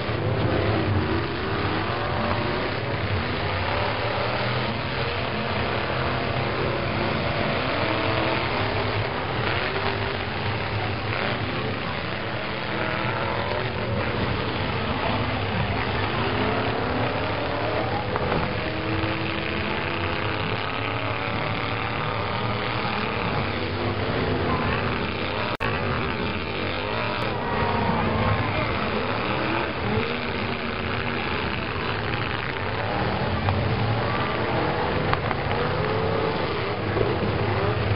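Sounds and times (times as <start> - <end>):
truck engines revving: 0.0 - 37.9
trucks knocking together: 0.0 - 37.9.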